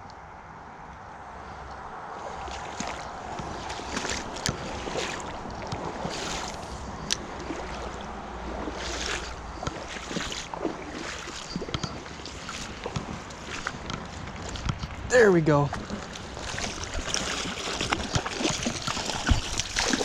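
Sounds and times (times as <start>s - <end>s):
flowing river water: 1.1s - 20.0s
wind noise on microphone: 1.2s - 20.0s
water splashes: 1.5s - 20.0s.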